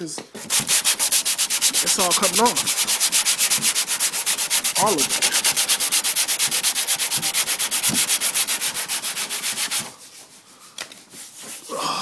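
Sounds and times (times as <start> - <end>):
sandpaper rubbing on car body: 0.4 - 10.5, 11.2 - 11.7.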